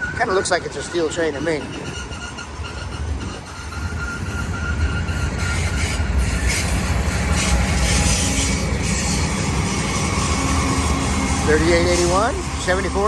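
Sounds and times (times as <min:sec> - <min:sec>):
freight train wheels rumbling: 0:00.0 - 0:13.0
thin wheel squeal: 0:01.0 - 0:13.0.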